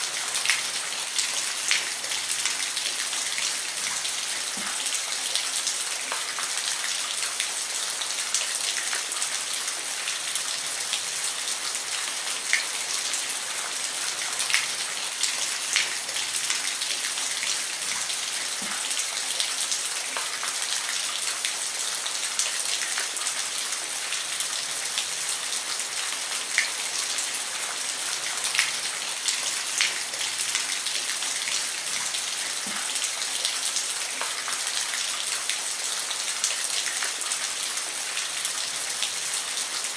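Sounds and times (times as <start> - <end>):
rain hissing on a roof: 0.0 - 39.9.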